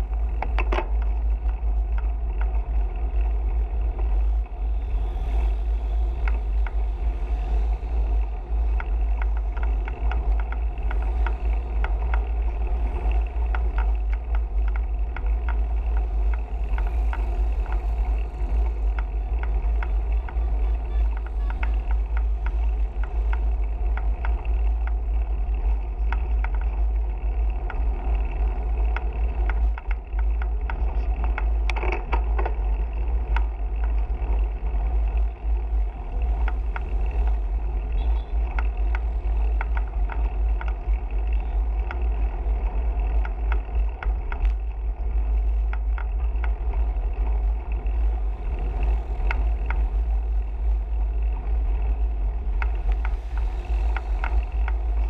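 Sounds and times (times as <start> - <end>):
road noise: 0.0 - 55.0
small clicks and rattles: 0.0 - 55.0
wind noise on microphone: 0.0 - 55.0.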